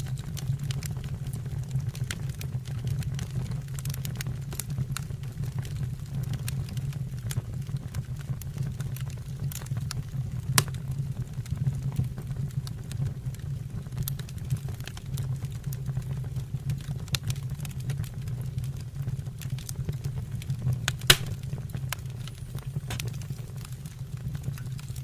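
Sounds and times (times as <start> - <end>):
wood fire roaring: 0.0 - 25.0
fire crackling and popping: 0.1 - 25.0.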